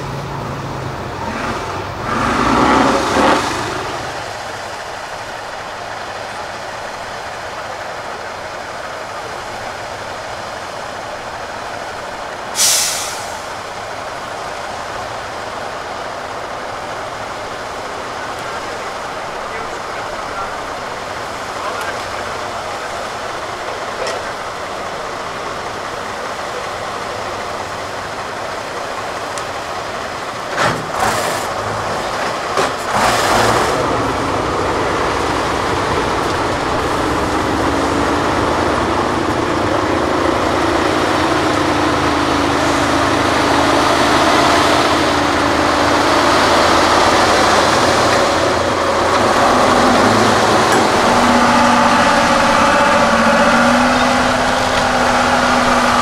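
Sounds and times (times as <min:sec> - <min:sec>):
truck diesel engine under load: 0:00.0 - 0:56.0.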